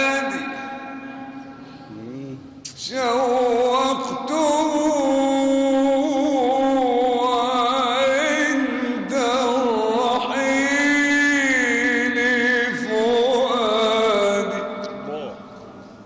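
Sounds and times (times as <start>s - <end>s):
man singing with vibrato: 0.0s - 1.3s, 2.0s - 15.1s.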